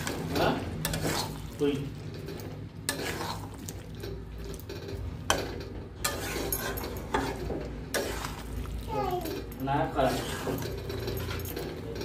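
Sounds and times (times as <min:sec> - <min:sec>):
metal spatula scraping pan: 0:00.0 - 0:12.0.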